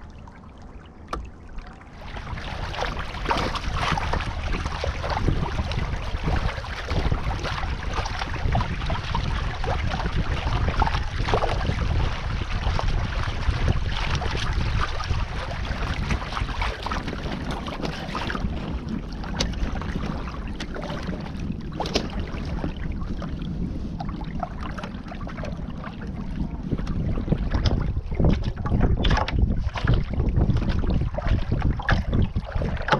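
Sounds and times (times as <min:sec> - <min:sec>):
water rushing along hull: 0:00.0 - 0:32.9
wind buffeting microphone: 0:00.0 - 0:32.9.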